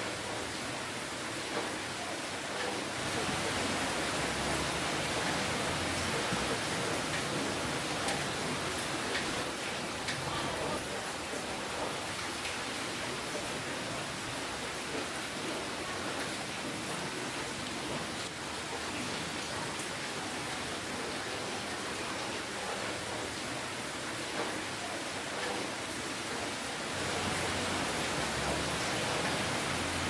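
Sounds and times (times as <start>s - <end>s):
steady rain hiss: 0.0s - 30.0s
raindrop ticks: 1.4s - 30.0s.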